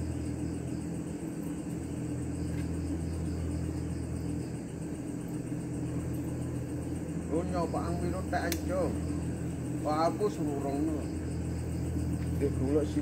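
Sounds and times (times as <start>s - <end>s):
insects chirping faintly: 0.0s - 13.0s
low mechanical hum: 0.0s - 13.0s.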